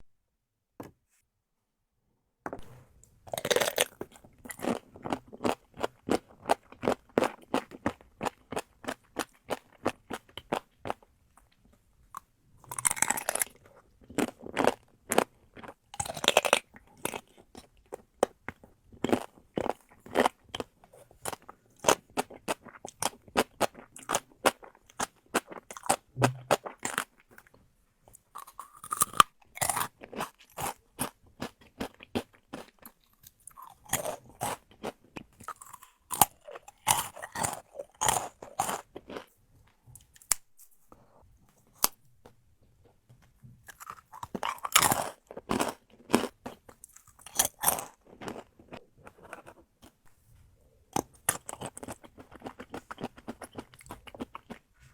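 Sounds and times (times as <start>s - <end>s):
food crunching while chewed: 2.5s - 43.0s, 43.6s - 50.2s, 50.9s - 54.9s.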